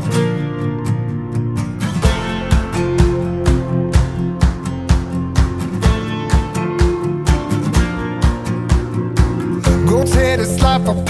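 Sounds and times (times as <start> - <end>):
acoustic guitar strumming: 0.0 - 11.0
steady thumping beat: 2.0 - 11.0.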